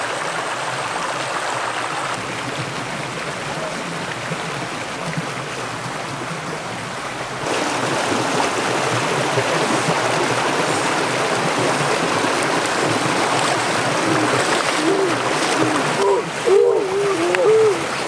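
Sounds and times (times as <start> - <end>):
stream rushing: 0.0 - 18.0.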